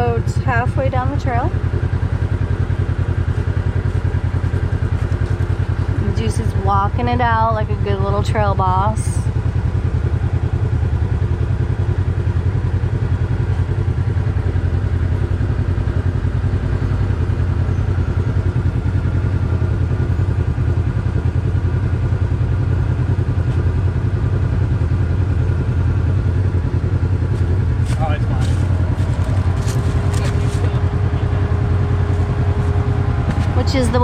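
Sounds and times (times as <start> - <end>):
engine running at low revs: 0.0 - 34.0.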